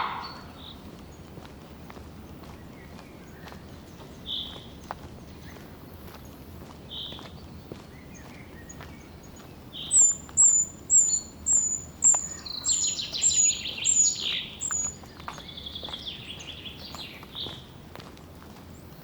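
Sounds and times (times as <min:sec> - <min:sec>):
faint footsteps on trail: 0:00.0 - 0:19.0
songbird singing: 0:00.0 - 0:19.0.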